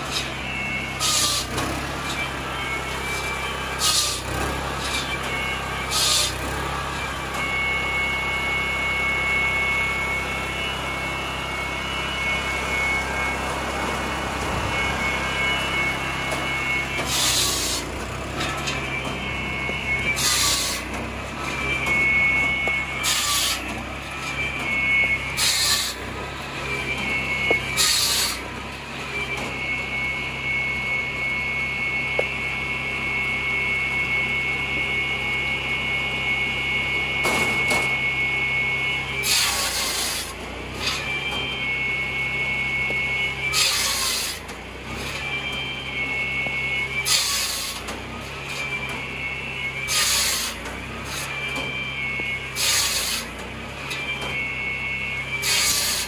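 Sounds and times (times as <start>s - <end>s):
saw blade cutting logs: 0.0s - 35.5s, 36.6s - 56.0s
circular blade whining: 0.0s - 56.0s
log saw engine humming: 0.0s - 56.0s.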